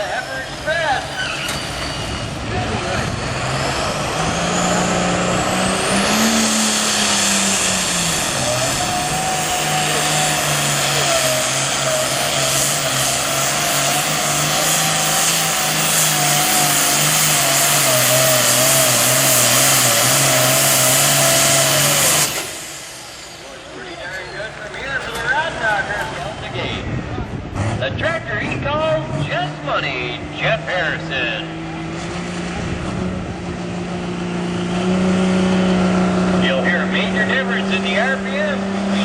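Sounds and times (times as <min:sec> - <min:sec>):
diesel engine running flat out: 0:00.0 - 0:39.0.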